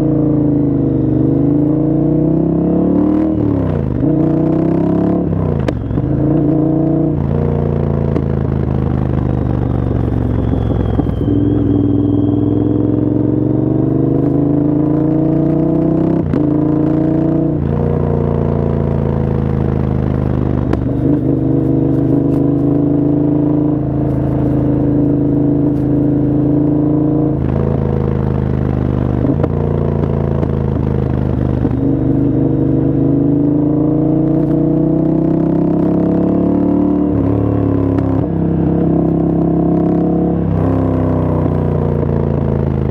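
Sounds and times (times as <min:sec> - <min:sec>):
motorcycle engine under load: 0:00.0 - 0:42.9.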